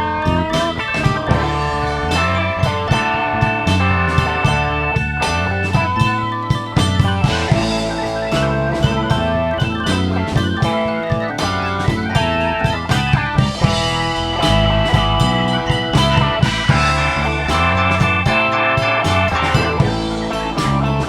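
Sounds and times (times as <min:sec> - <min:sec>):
drum kit beat: 0:00.0 - 0:21.0
electric guitar: 0:00.0 - 0:21.0.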